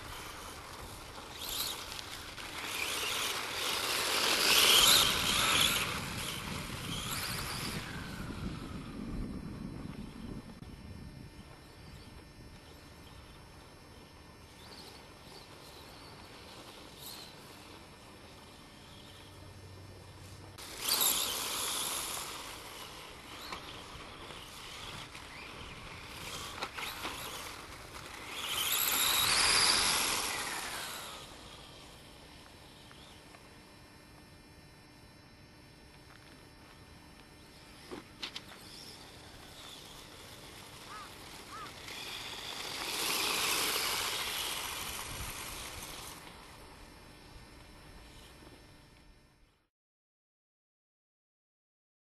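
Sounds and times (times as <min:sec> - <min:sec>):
electric motor whining: 0:00.0 - 0:33.5, 0:36.1 - 0:49.2.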